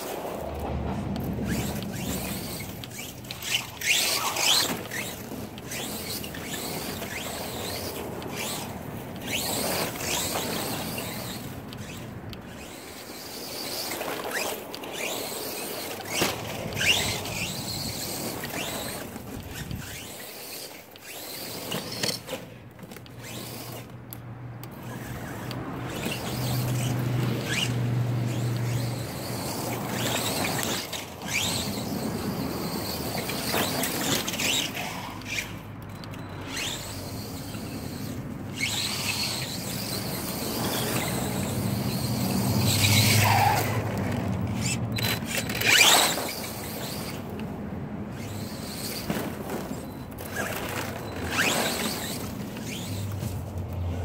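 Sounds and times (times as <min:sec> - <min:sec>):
toy truck motor whining: 0:00.0 - 0:54.0.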